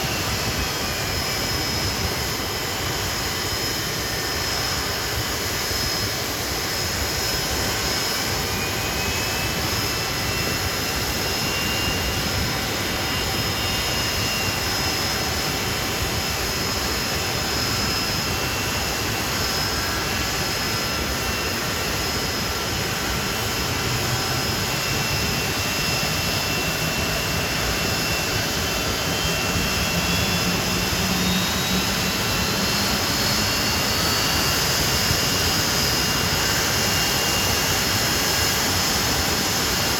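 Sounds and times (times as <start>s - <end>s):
high-pitched engine whine: 0.0s - 39.9s
jet engines rushing: 0.0s - 39.9s.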